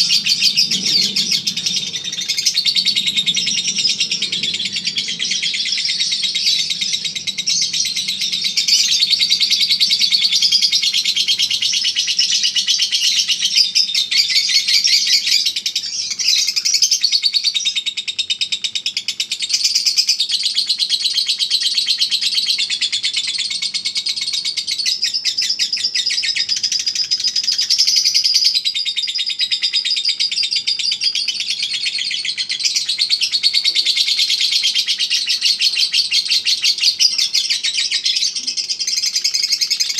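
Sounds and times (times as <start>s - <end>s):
bird high-pitched chattering trill: 0.0s - 39.9s.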